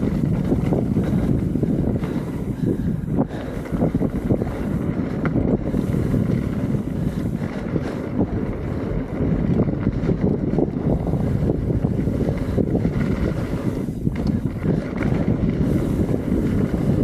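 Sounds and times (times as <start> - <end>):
bike knocking and rattling: 0.0 - 17.0
wind rumble on microphone: 0.0 - 17.0.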